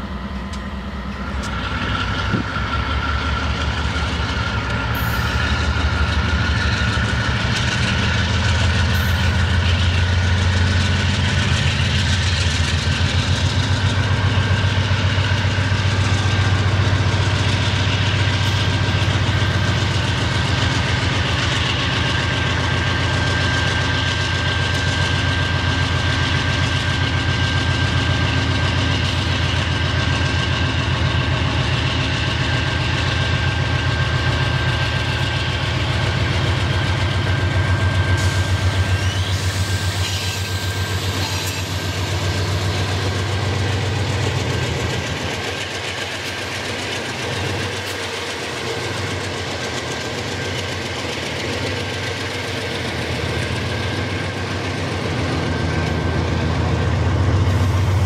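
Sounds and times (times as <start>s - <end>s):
diesel locomotives throbbing: 0.0s - 58.0s.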